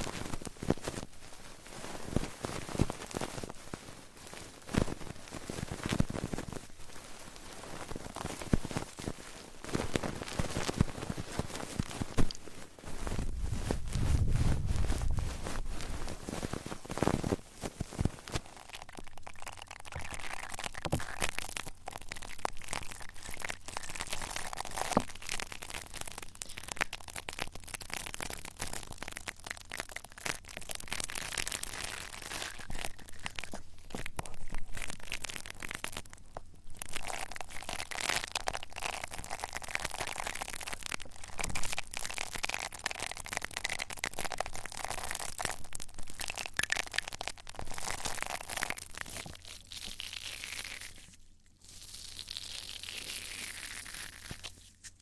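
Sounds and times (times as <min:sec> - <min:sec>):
crinkling and crackling of object: 0:00.0 - 0:55.0.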